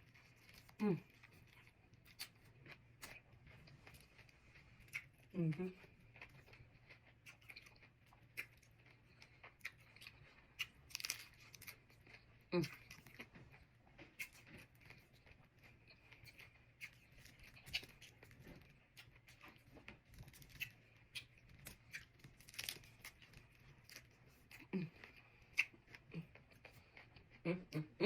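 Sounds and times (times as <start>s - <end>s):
chewing food: 0.0s - 28.0s.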